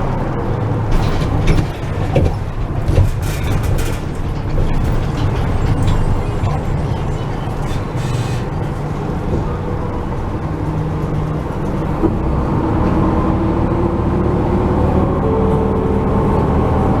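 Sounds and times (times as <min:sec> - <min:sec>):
bus engine running: 0:00.0 - 0:17.0
road rumble: 0:00.0 - 0:17.0.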